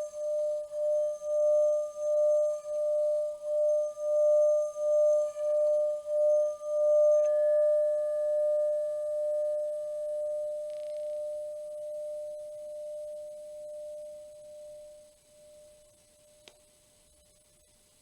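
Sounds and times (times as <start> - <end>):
pure ringing tone: 0.0 - 18.0.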